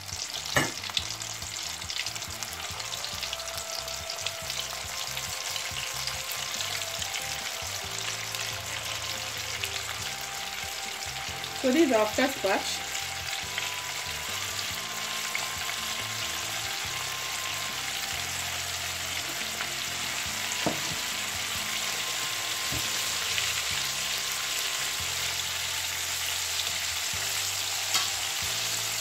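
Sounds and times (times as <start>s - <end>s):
chicken deep-frying in oil: 0.0s - 29.0s.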